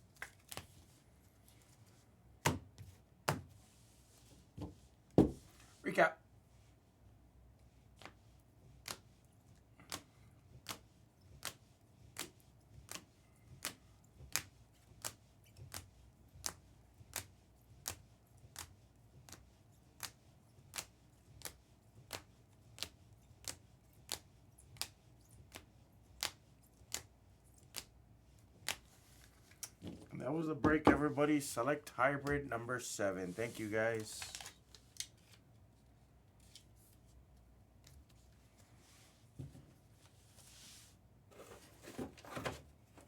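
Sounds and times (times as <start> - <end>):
faint low room hum: 0.0 - 43.0.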